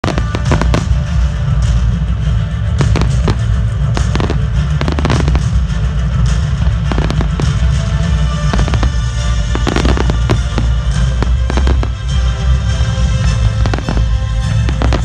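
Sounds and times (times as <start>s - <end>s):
fireworks bursting and crackling: 0.0s - 15.0s
low rumble: 0.0s - 15.0s
music playing: 0.0s - 15.0s.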